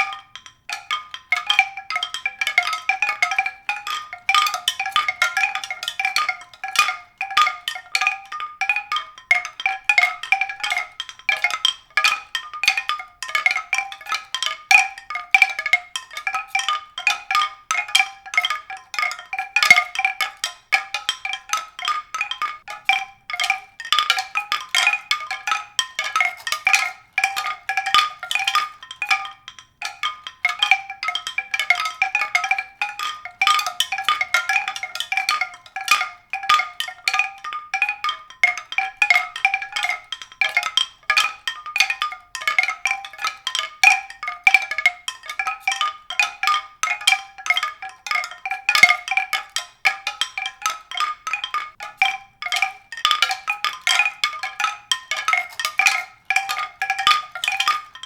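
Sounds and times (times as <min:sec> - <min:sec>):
tuned percussion notes: 0:00.0 - 0:58.0.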